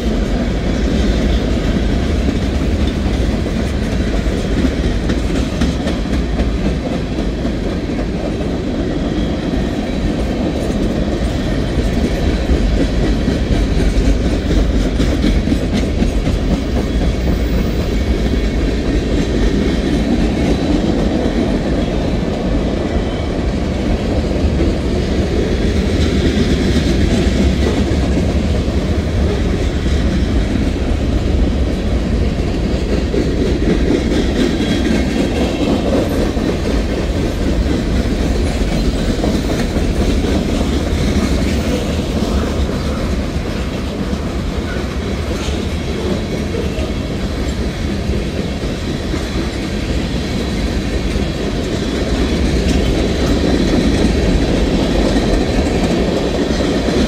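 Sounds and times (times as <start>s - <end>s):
freight train cars rolling past: 0.0s - 57.0s
steel wheels on rails: 0.0s - 57.0s.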